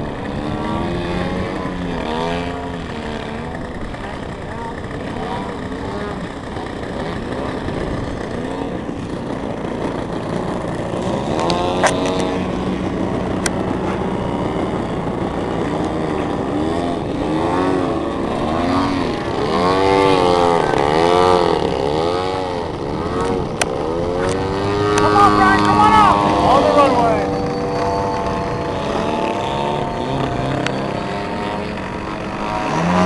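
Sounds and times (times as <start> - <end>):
model airplane engine droning: 0.0 - 33.0.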